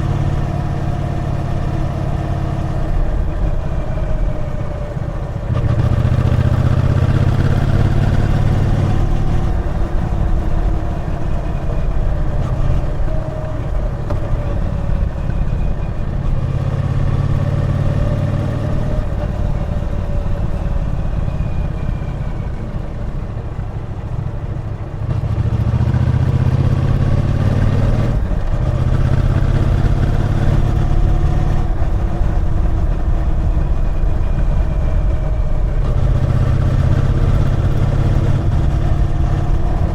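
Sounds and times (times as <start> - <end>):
motorcycle engine on road: 0.0 - 39.9.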